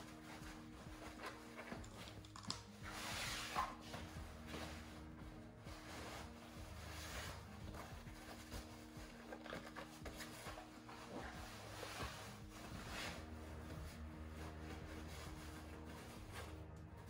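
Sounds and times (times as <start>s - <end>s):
fabric rustling: 0.0s - 17.0s
faint background music: 0.0s - 17.0s.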